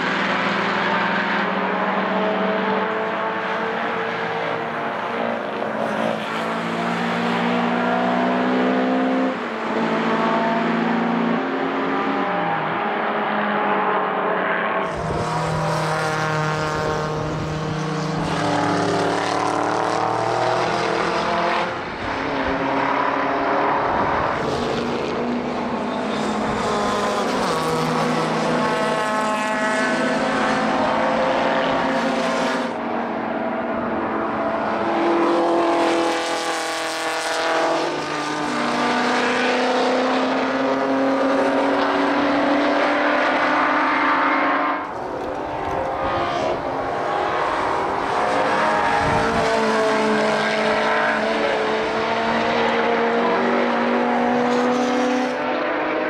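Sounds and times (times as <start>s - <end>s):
race cars passing at high revs: 0.0s - 56.0s.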